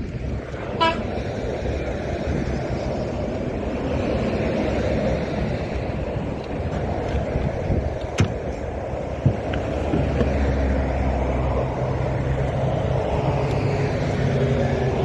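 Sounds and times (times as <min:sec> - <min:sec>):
truck driving rumble: 0:00.0 - 0:15.0.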